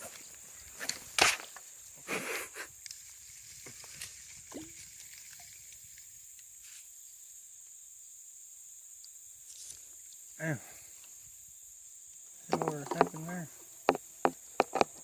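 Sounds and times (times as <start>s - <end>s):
insect chorus hissing: 0.0s - 15.0s.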